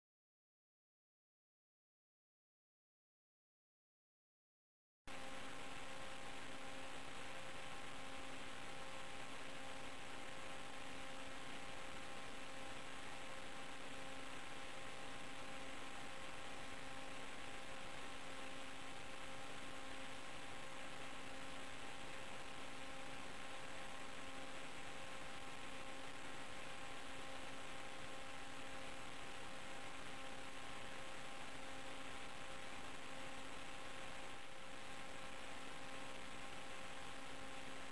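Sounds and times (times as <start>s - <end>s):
electrical hum: 5.1s - 37.9s.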